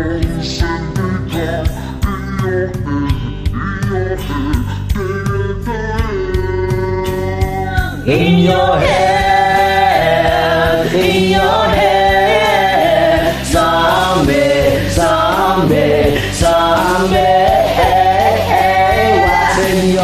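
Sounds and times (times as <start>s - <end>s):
karaoke backing track: 0.0s - 20.0s
layered sung vocals: 0.0s - 20.0s.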